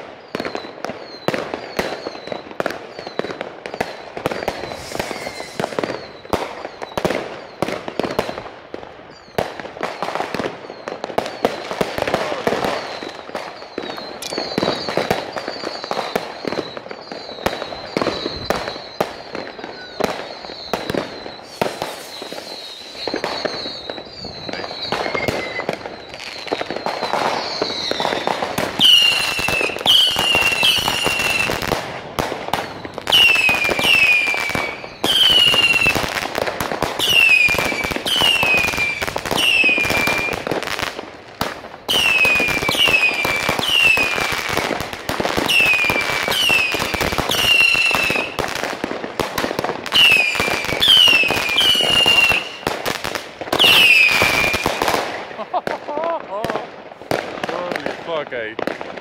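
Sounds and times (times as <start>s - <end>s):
firework whistles: 0.0s - 56.0s
firework bangs: 0.0s - 59.0s
fireworks crackling: 0.0s - 59.0s.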